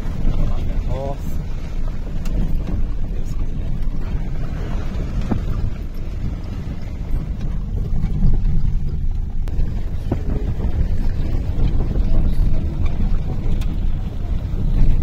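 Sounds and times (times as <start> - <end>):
car road noise rumble: 0.0 - 15.0
wind buffeting microphone: 0.0 - 15.0.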